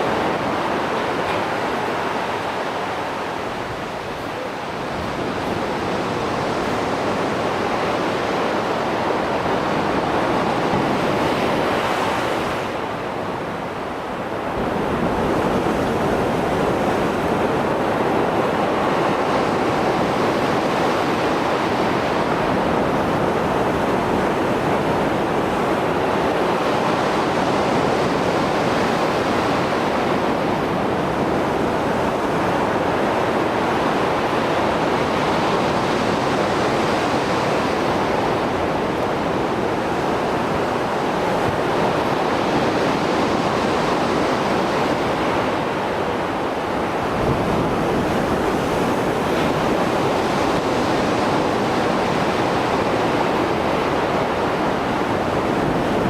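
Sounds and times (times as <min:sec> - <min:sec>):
waves washing onto shore: 0:00.0 - 0:56.0.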